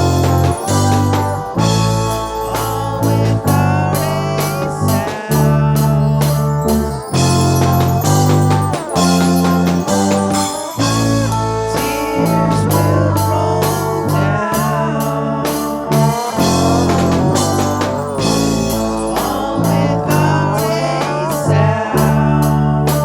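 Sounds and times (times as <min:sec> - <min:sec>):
bass: 0:00.0 - 0:23.0
drums: 0:00.0 - 0:23.0
lead guitar with bent notes: 0:00.0 - 0:23.0.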